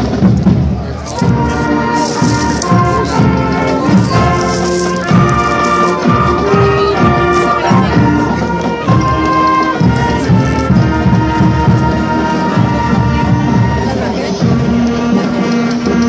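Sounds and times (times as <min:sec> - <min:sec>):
drums beating: 0:00.0 - 0:16.0
marching band playing: 0:00.0 - 0:16.0
brass holding notes: 0:01.0 - 0:16.0.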